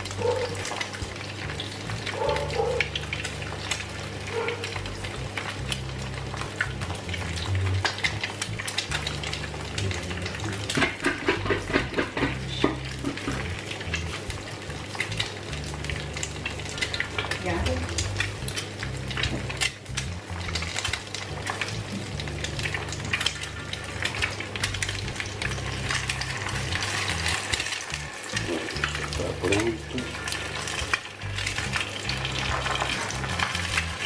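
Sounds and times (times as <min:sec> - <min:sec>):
eggs sizzling in frying pan: 0:00.0 - 0:34.0.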